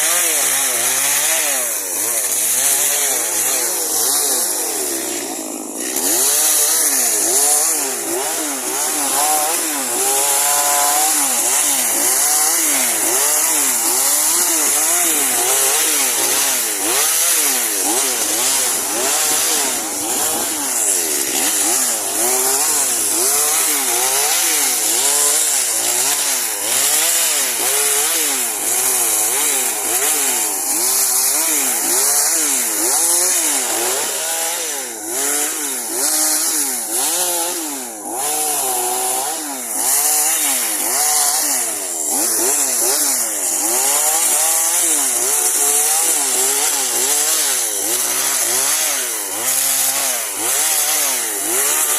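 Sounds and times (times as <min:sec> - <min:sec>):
chainsaw cutting branches: 0:00.0 - 0:51.9.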